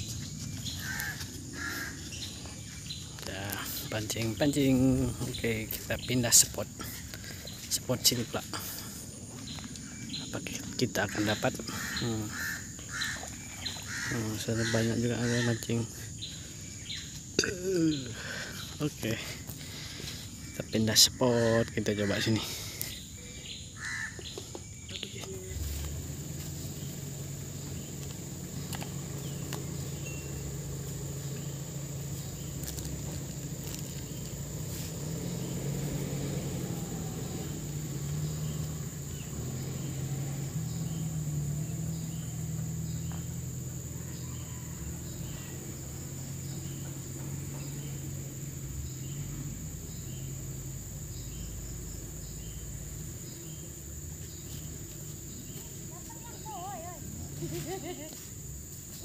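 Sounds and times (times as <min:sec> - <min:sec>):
insects trilling: 0:00.0 - 0:59.0
short insect chirp: 0:00.0 - 0:59.0.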